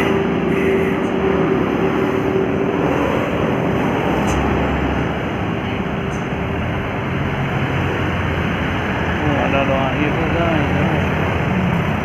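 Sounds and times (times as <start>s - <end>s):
heavy vehicle engine and tyre rumble: 0.0s - 12.0s.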